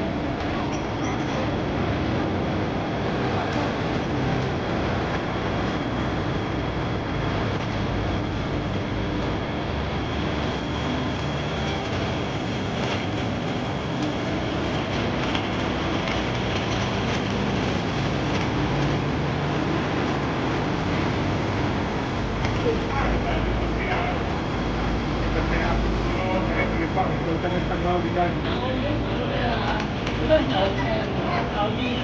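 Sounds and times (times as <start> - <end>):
pedestrian crossing hum: 0.0 - 32.0
traffic rumble: 0.0 - 32.0.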